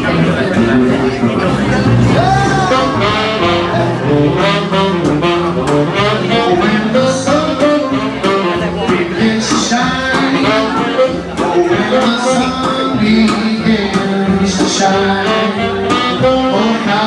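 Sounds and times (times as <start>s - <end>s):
jazz band playing: 0.0s - 17.0s.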